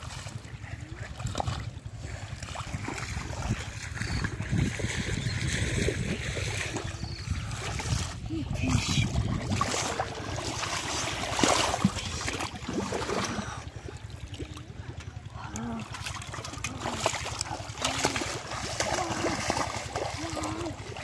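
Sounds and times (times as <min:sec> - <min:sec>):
muddy water splashing: 0:00.0 - 0:21.0.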